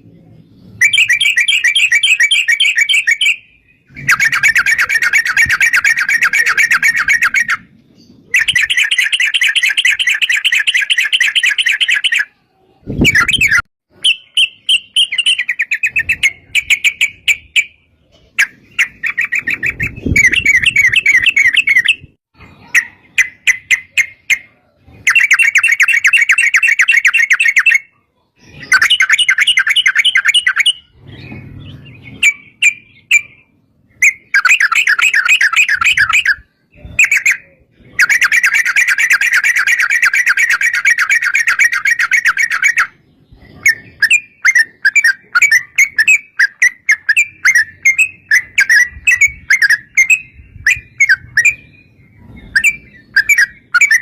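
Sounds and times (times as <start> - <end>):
bird chirps: 0.0 - 54.0
bird singing rolling trills: 0.0 - 54.0.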